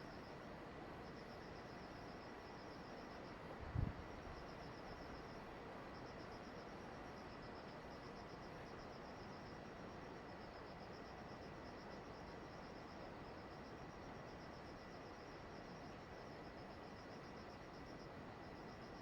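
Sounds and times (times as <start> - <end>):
crickets chirping: 1.0 - 19.0.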